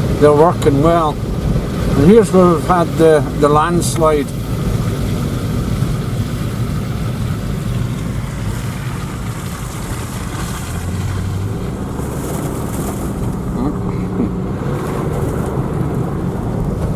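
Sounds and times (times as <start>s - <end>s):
car engine humming: 0.0s - 16.9s
tyre and road noise: 0.0s - 16.9s.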